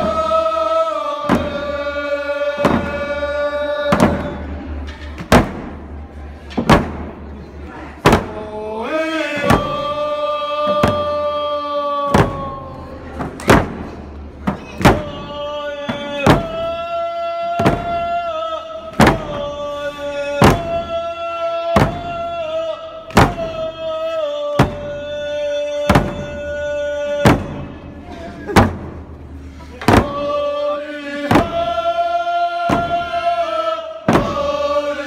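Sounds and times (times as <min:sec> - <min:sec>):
group of voices singing: 0:00.0 - 0:04.9, 0:08.0 - 0:35.0.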